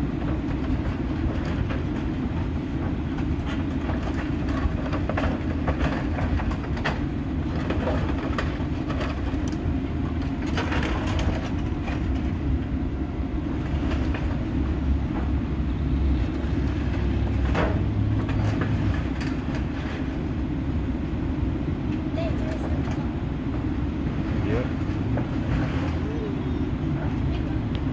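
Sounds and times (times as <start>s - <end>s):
diesel engine under load: 0.0s - 27.9s.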